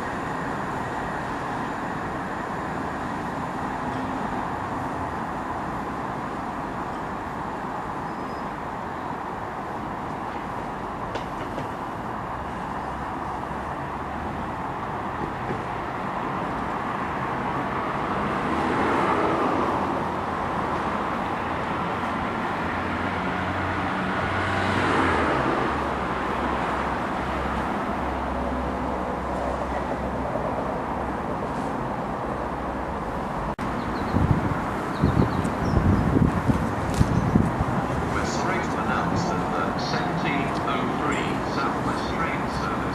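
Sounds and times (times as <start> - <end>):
rumble of passing vehicles: 0.0 - 42.9.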